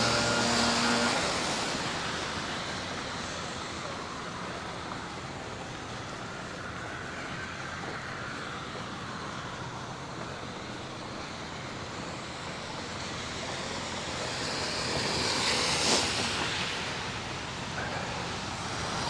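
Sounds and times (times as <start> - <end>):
traffic noise: 0.0 - 19.0
tyres hissing on slushy street: 0.0 - 19.0.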